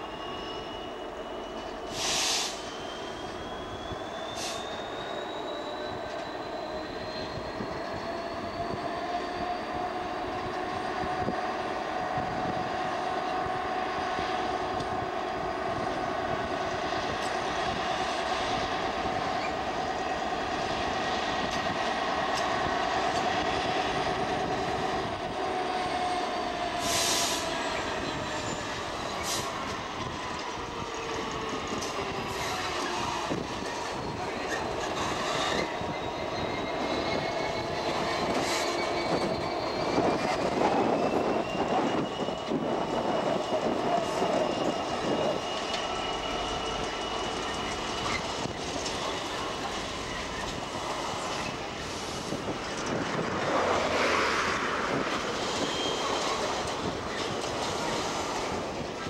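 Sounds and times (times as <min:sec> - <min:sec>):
diesel locomotive engine under load: 0:00.0 - 0:59.0.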